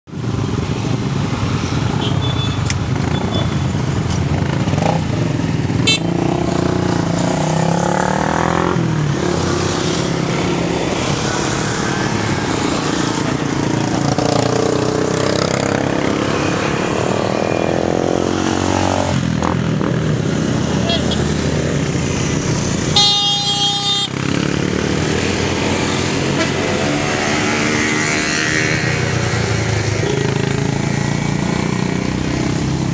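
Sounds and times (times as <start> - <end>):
motorcycle engines accelerating: 2.6 - 32.9.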